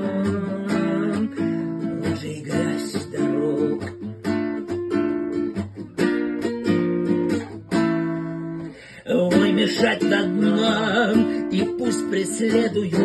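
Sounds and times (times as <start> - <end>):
person singing: 0.0 - 4.9, 7.4 - 13.0
acoustic guitar strumming chords: 0.0 - 13.0.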